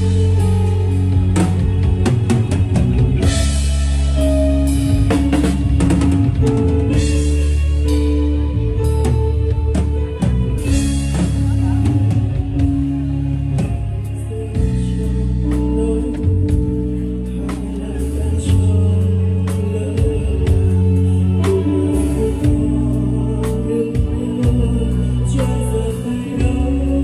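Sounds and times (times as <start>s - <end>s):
bass: 0.0s - 27.0s
drum kit fills: 0.0s - 27.0s
electric guitar: 0.0s - 27.0s
keyboard chords: 0.0s - 27.0s.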